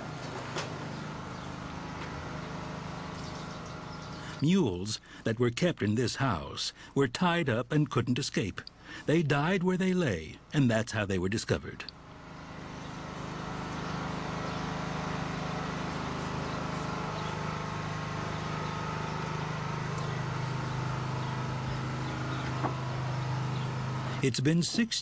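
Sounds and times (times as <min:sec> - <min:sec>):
machine humming: 0:00.0 - 0:07.0, 0:11.7 - 0:25.0.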